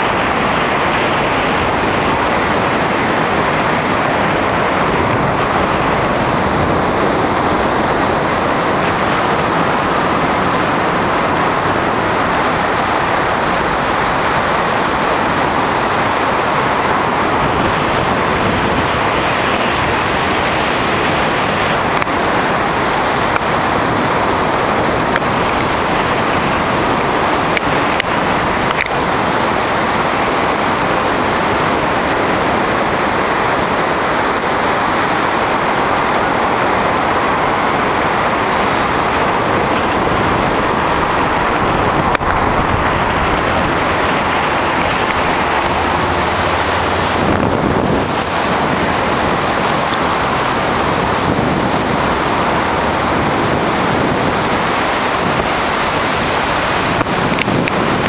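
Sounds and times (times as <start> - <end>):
air rushing across microphone: 0.0 - 58.0.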